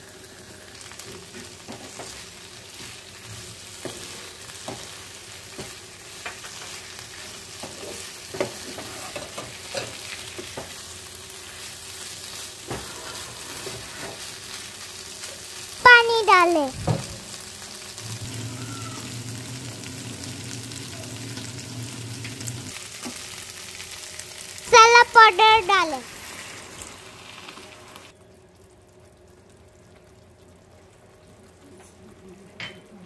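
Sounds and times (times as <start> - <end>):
mushrooms sizzling in oil: 0.0 - 32.2.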